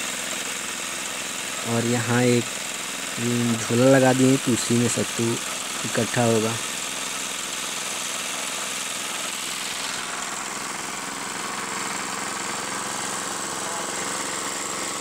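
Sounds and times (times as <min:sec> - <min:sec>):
grinding mill grinding: 0:00.0 - 0:15.0
small petrol engine running: 0:00.0 - 0:15.0.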